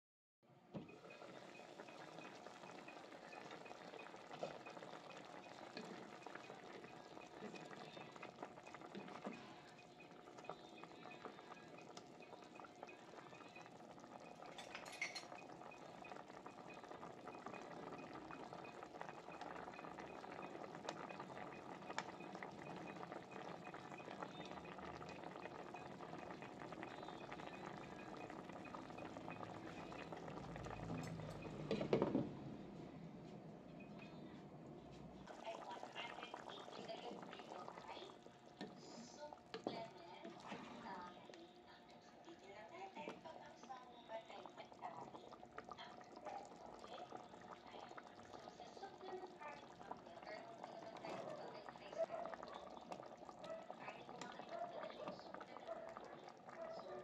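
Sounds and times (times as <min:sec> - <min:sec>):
broth bubbling in pot: 0:00.7 - 0:57.0.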